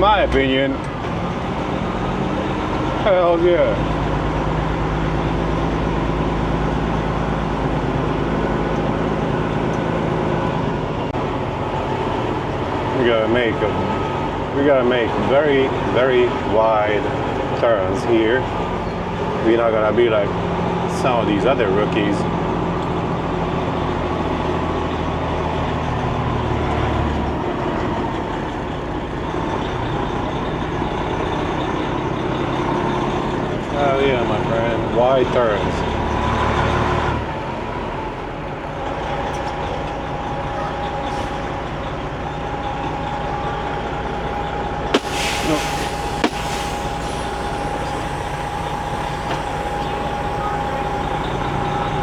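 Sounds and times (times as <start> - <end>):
road rumble: 0.0 - 52.0
truck diesel engine droning: 0.0 - 52.0.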